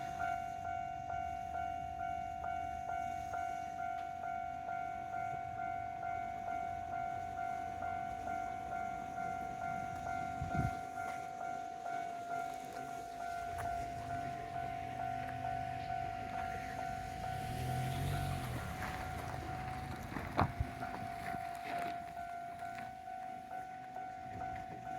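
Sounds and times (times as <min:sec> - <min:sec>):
railroad crossing bell ringing: 0:00.0 - 0:24.9
train rumbling past: 0:00.0 - 0:24.9.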